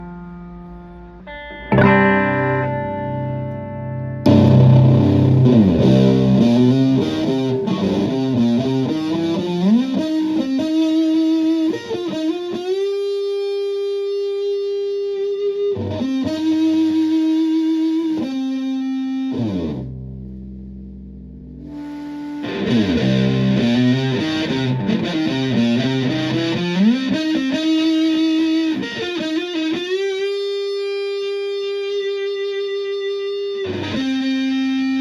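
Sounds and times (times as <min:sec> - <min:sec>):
distorted electric guitar: 0:00.0 - 0:35.0.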